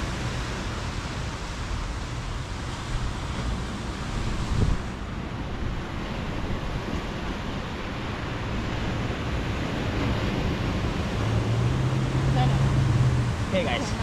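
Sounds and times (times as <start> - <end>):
ocean surf washing in: 0.0 - 14.0
wind rushing over microphone: 0.0 - 14.0.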